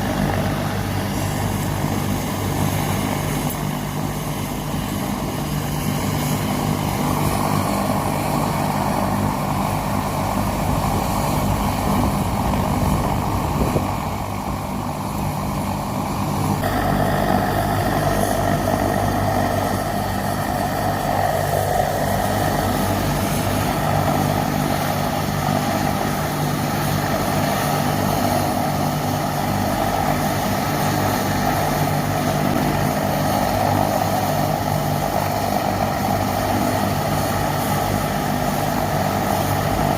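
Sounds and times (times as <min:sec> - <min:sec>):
helicopter engine and rotors: 0:00.0 - 0:39.9
turbine hiss and whine: 0:00.0 - 0:39.9.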